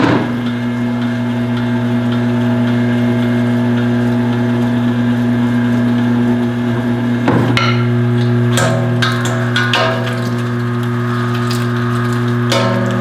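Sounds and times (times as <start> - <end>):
electric meat grinder motor humming: 0.6 - 13.0.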